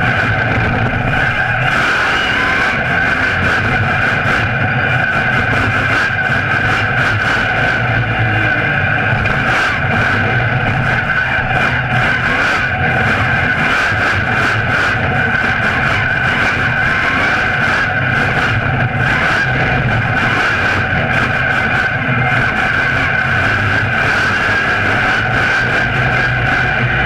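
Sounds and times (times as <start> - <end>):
constant high whine: 0.0 - 27.0
truck engine running hard: 0.0 - 27.0.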